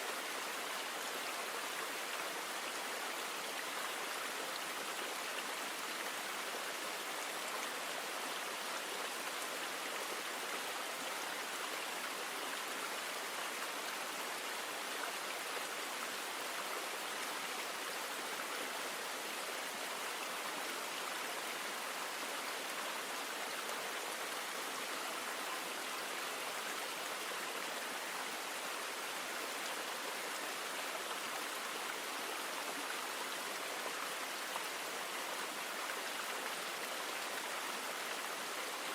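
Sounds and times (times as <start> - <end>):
flowing river water: 0.0 - 38.9.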